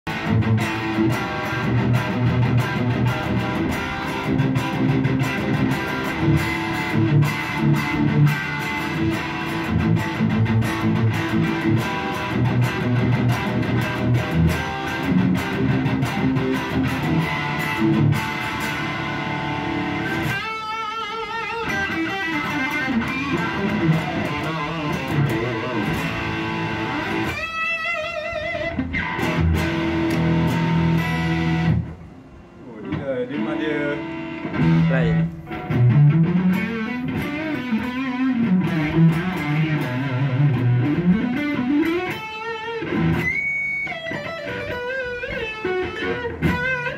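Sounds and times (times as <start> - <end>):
electric guitar through amplifier: 0.1 - 46.9.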